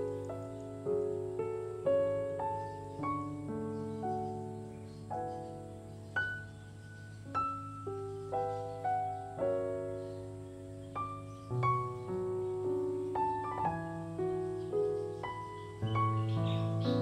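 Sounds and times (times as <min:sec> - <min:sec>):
gentle slow piano music: 0:00.0 - 0:17.0.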